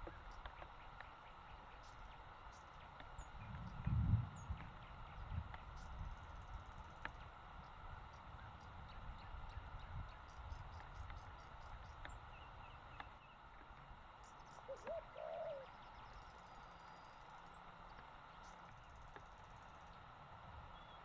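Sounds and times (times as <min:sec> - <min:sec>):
bird calls: 0:00.0 - 0:06.1, 0:07.0 - 0:13.6, 0:14.2 - 0:19.3, 0:20.7 - 0:21.0
steady background hiss: 0:00.0 - 0:21.0.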